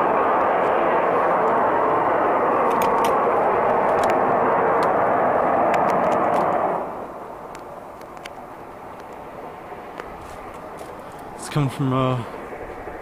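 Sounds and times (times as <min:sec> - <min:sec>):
faint background roar: 0:00.0 - 0:13.0
loud rushing roar: 0:00.0 - 0:13.0.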